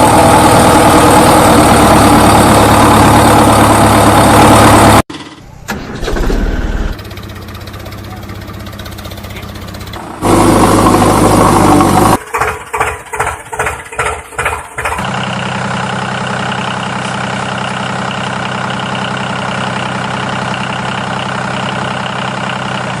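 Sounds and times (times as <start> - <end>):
engine chugging: 0.0 - 23.0
engine idling: 0.0 - 23.0
engine noise burst: 0.0 - 23.0.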